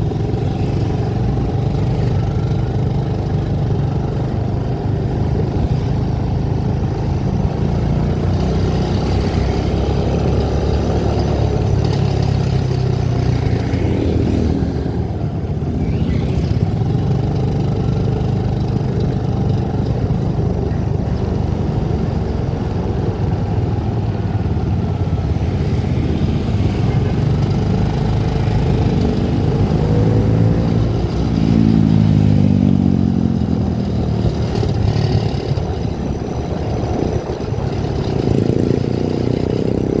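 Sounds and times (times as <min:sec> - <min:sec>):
road noise: 0:00.0 - 0:40.0
vehicle engine hum: 0:00.0 - 0:40.0.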